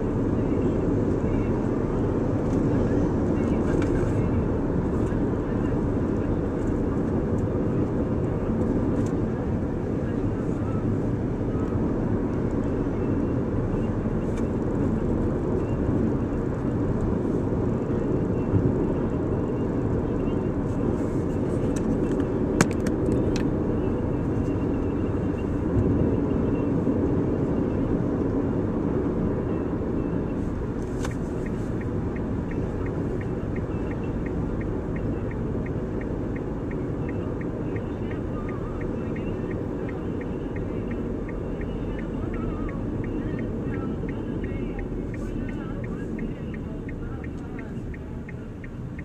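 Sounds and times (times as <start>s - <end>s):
car cabin road and engine noise: 0.0s - 49.0s.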